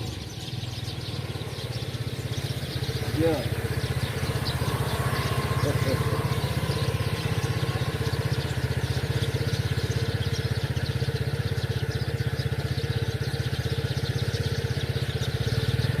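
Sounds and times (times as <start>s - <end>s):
birds chirping faintly: 0.0s - 16.0s
small engine idling: 0.0s - 16.0s.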